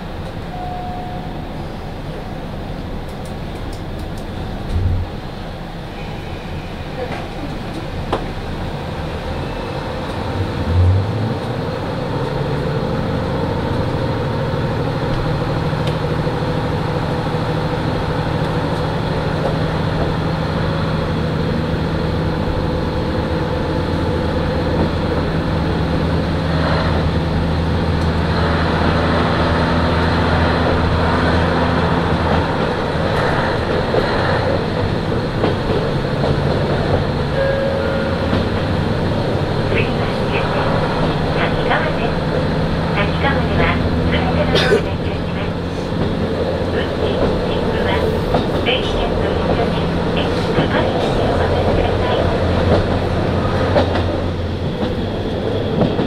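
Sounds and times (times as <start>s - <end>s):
diesel engine drone: 0.0s - 56.0s
train wheels rumbling on rails: 0.0s - 56.0s.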